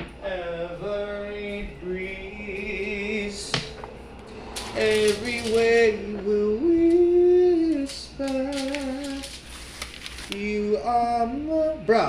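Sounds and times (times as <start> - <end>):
person singing a melody: 0.1 - 9.4, 10.3 - 12.0.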